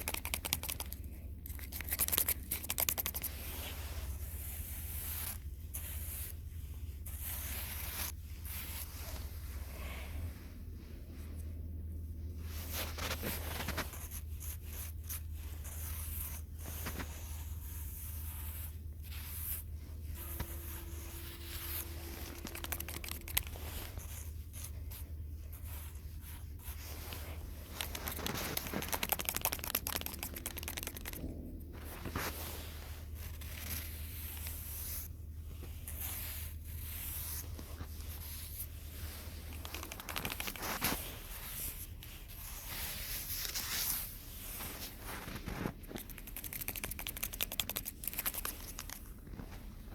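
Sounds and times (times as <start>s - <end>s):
low steady hum: 0.0s - 49.9s
rustling and crinkling material: 0.0s - 49.9s.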